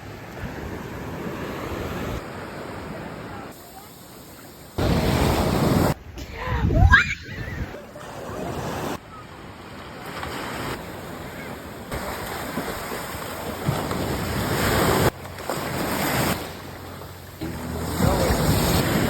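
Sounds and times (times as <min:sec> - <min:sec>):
ocean surf on beach: 0:00.0 - 0:19.0.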